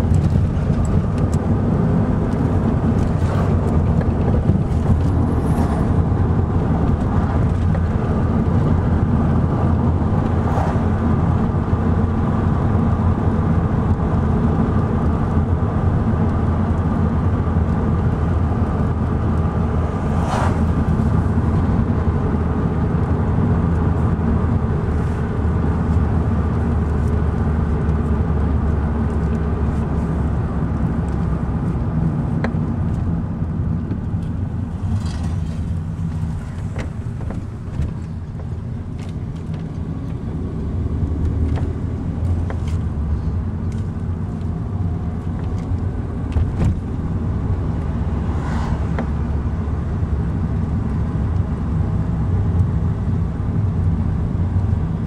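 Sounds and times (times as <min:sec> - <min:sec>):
engine and tyre rumble: 0:00.0 - 0:55.0.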